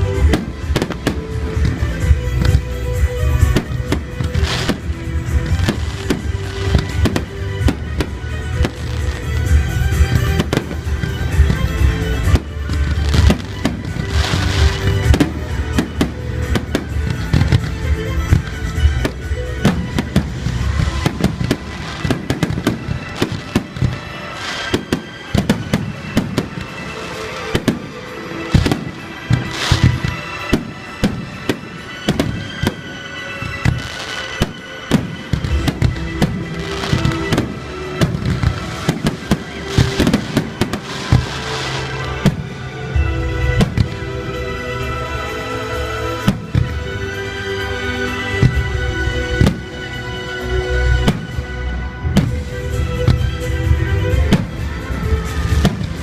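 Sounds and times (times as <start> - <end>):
fireworks bursts and crackling: 0.0 - 56.0
music playing: 0.0 - 56.0.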